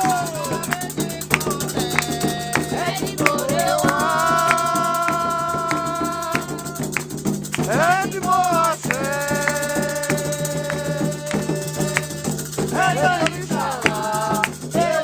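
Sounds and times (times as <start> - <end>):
person singing long notes: 0.0 - 7.0, 7.6 - 15.0
hand drums: 0.0 - 15.0
shaken rattle: 0.0 - 15.0.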